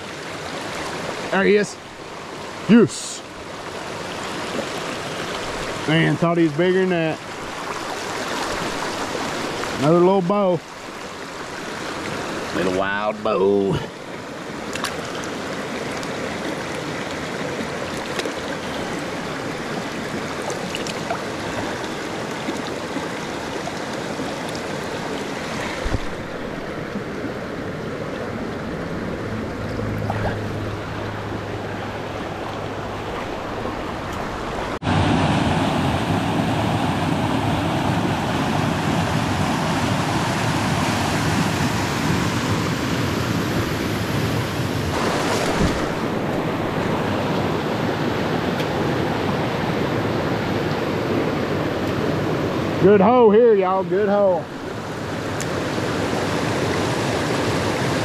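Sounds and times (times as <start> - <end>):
creek water rushing over rocks: 0.0 - 58.0.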